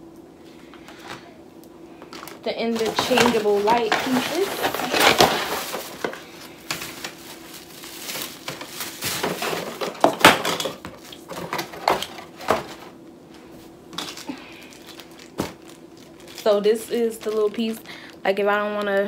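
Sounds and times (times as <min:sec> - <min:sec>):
cardboard and plastic rustling: 0:00.6 - 0:19.0.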